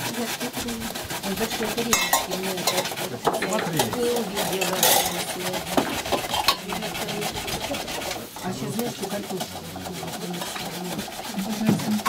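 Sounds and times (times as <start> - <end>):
metal utensil scraping enamel basin: 0.0 - 12.0.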